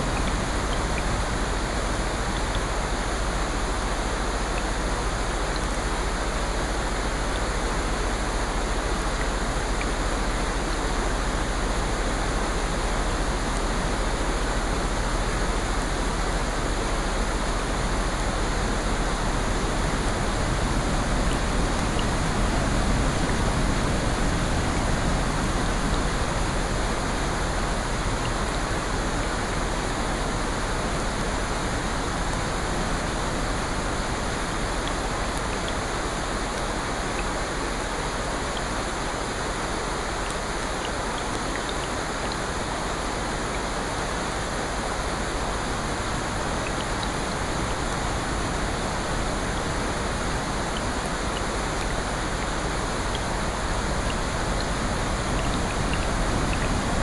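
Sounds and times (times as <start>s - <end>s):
rain drop ticks: 0.0s - 15.5s, 16.8s - 57.0s
steady rain hiss: 0.0s - 57.0s.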